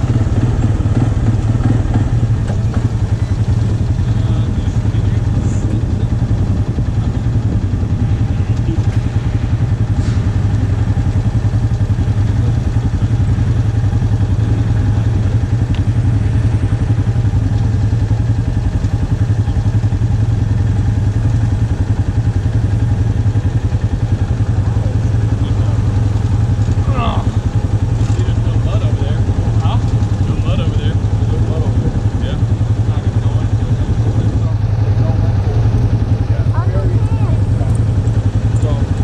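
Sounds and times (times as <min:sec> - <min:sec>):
atv engine idling: 0:00.0 - 0:39.0.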